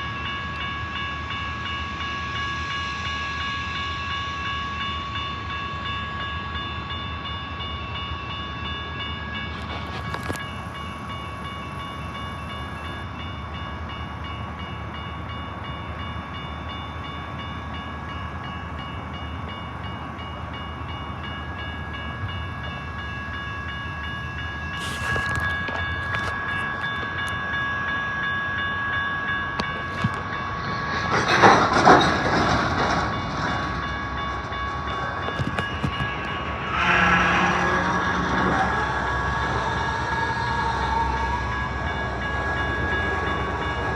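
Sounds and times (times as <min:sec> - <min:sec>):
train running with high whine: 0:00.0 - 0:43.9.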